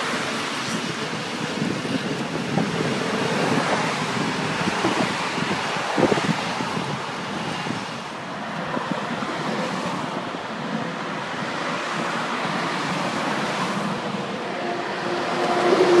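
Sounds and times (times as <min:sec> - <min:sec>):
cars driving past: 0:01.6 - 0:16.0.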